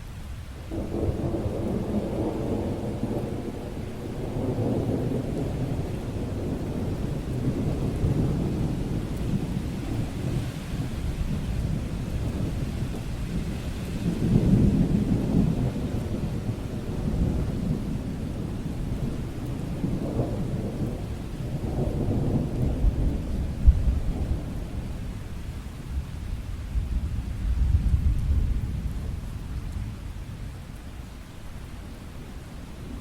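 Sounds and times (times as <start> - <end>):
steady rain: 0.0 - 33.0
thunder rumbling: 0.6 - 30.7.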